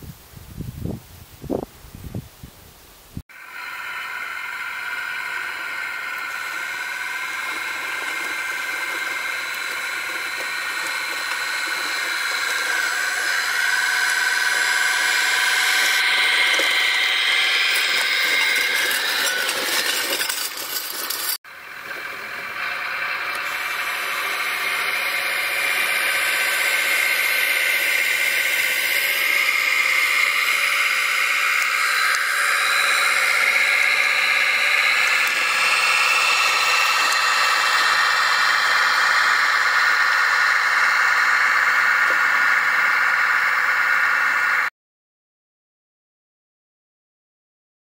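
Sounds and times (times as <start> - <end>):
diesel tractor engine through speaker: 3.3 - 20.6, 21.5 - 44.7
model drive gearing: 3.3 - 44.7.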